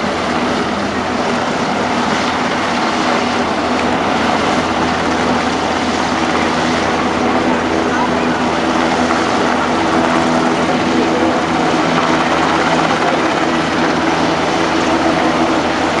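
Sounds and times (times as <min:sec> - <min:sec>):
helicopter rotors and engine droning: 0:00.0 - 0:16.0.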